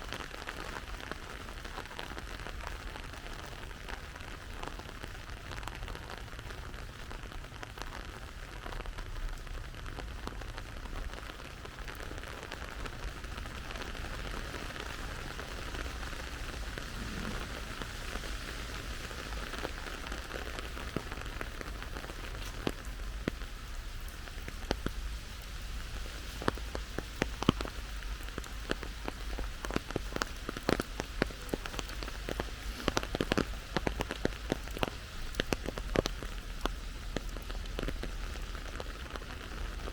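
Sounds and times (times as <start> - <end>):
raindrops tapping close by: 0.0 - 39.9
steady rain falling: 0.0 - 39.9.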